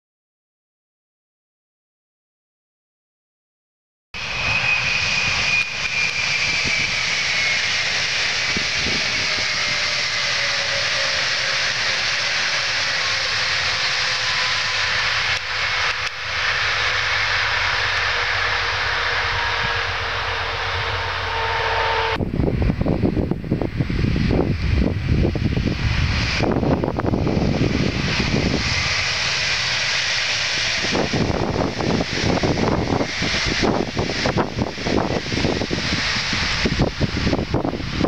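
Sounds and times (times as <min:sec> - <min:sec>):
train wheels on rail: 0:04.2 - 0:38.0
wind buffeting microphone: 0:04.2 - 0:38.0
train motor whine: 0:04.3 - 0:38.0.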